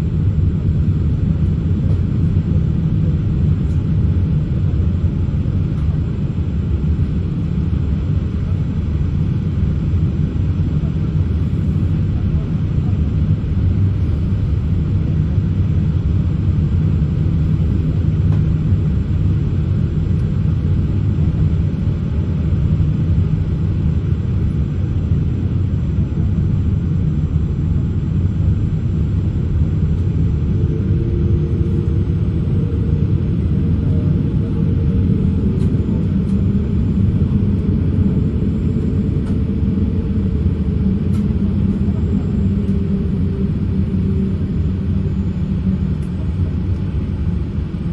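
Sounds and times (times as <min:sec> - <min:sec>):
faint steady hum: 0:00.0 - 0:47.9
jet engine cabin rumble: 0:00.0 - 0:47.9.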